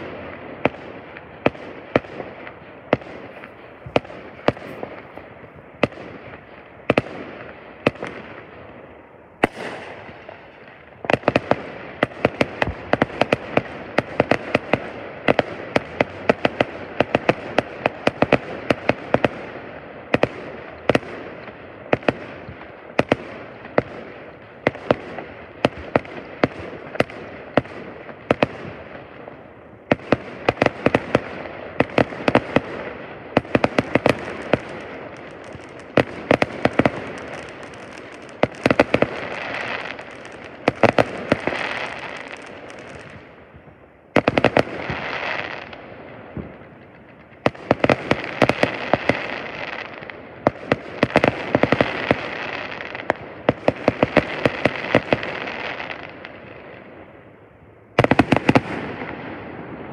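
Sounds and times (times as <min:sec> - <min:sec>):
fireworks bangs and cracks: 0:00.0 - 0:57.1, 0:57.9 - 0:59.9.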